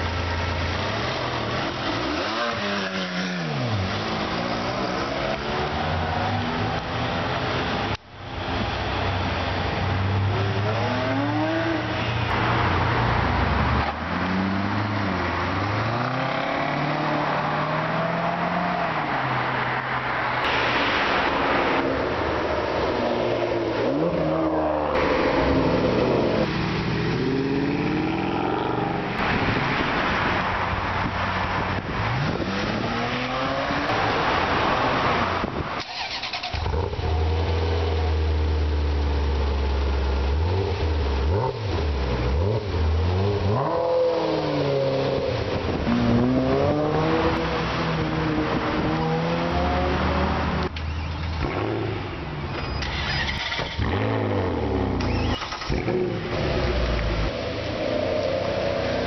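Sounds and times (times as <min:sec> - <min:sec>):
car engines revving past: 0:00.0 - 0:08.0, 0:08.6 - 0:59.0.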